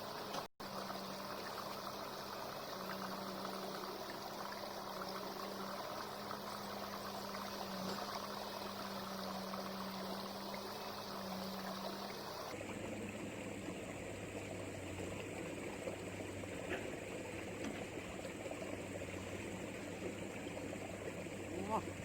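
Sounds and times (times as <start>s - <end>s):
flowing water noise: 0.0s - 22.0s.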